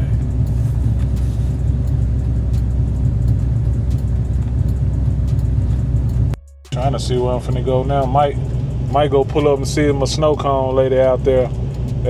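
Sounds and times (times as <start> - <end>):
car cabin engine and road rumble: 0.0 - 12.0.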